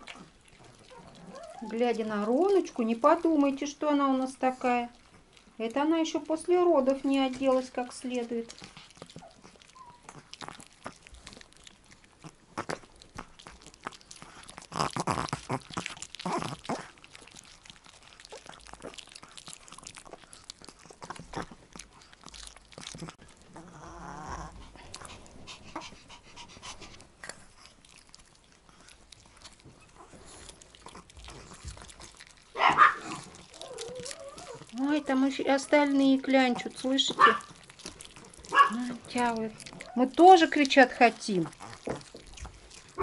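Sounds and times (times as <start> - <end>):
dog chewing pepper: 0.0 - 43.0
dog sounds: 0.0 - 43.0.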